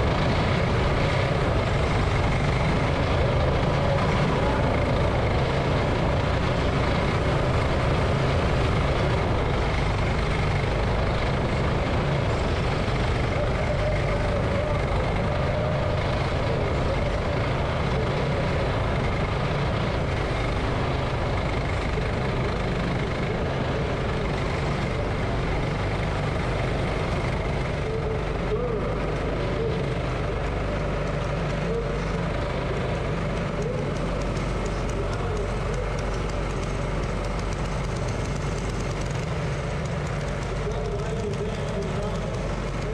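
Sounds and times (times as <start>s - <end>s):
go-kart engine running: 0.0s - 42.9s.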